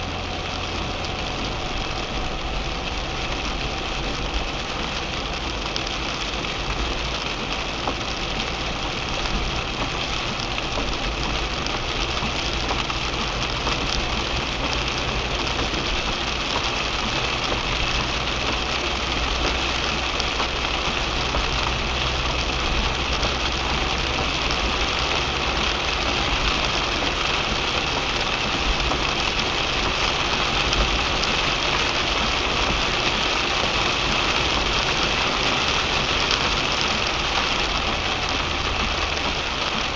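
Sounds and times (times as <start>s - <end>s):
low engine and road rumble: 0.0s - 39.9s
rain falling on a car: 0.0s - 39.9s.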